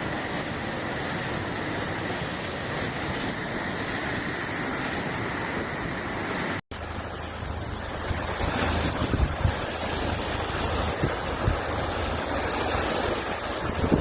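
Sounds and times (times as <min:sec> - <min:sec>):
rough sea surf roaring: 0:00.0 - 0:14.0
wind buffeting microphone: 0:00.0 - 0:14.0.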